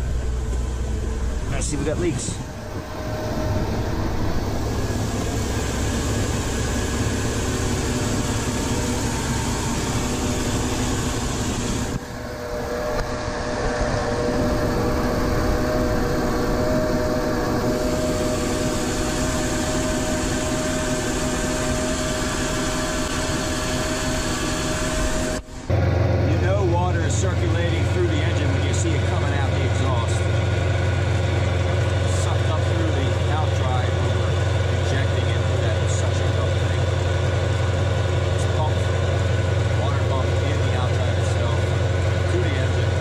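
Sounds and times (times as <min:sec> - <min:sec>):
boat engine running steadily: 0:00.0 - 0:43.0.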